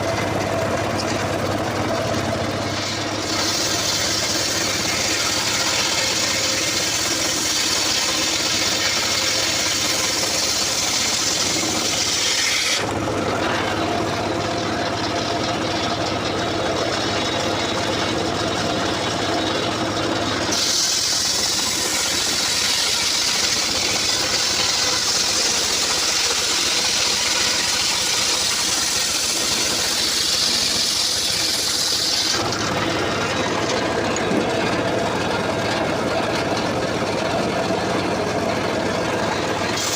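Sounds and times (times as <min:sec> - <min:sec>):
circular saw engine running: 0:00.0 - 0:39.9
saw blade cutting log: 0:00.0 - 0:39.9.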